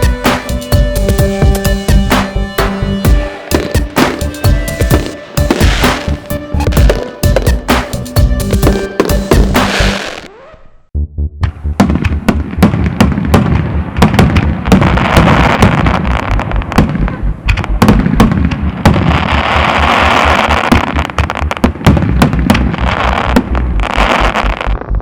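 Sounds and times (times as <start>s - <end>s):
fireworks crackling: 0.0s - 10.6s, 11.8s - 24.8s
fireworks bangs and pops: 3.5s - 10.6s, 11.8s - 24.9s.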